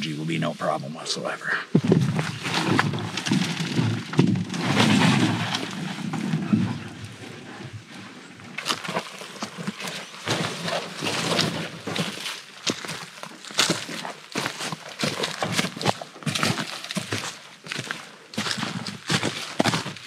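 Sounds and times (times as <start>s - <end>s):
footsteps on dry leaves: 0.6s - 6.3s, 8.6s - 20.0s
canoe rustling and knocking: 1.7s - 20.0s.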